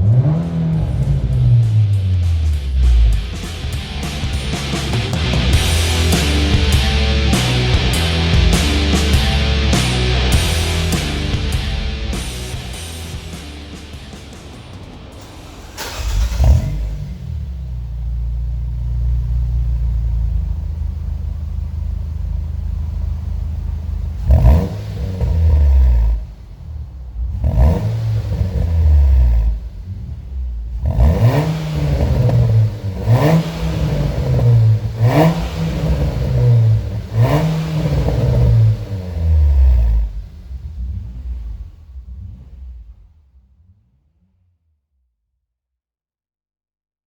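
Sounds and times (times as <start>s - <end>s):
car engine starting idling and revving: 0.0s - 45.4s.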